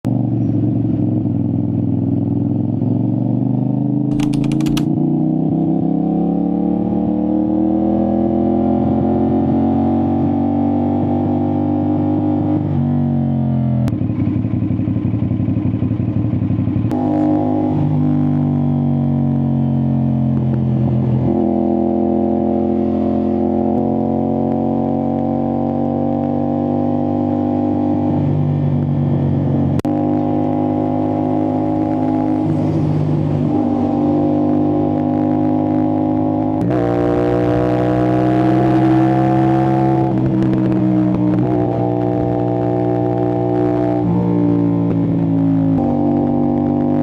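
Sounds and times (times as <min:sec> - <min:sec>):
motorcycle engine accelerating: 0:00.1 - 0:47.0.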